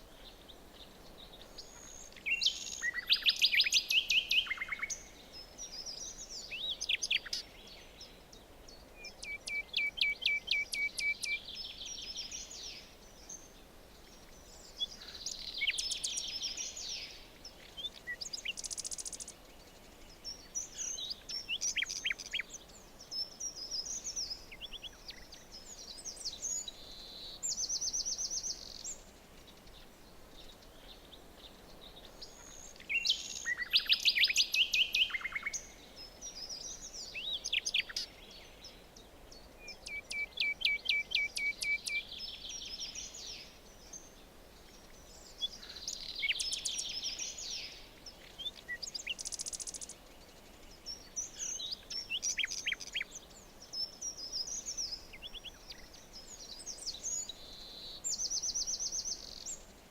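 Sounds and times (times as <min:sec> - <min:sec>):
faint background hiss: 0:00.0 - 0:59.9
songbirds singing trills: 0:00.0 - 0:59.9.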